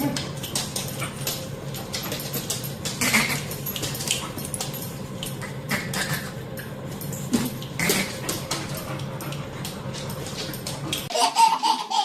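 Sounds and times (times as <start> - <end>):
dog claws clicking and tapping: 0.0 - 11.1.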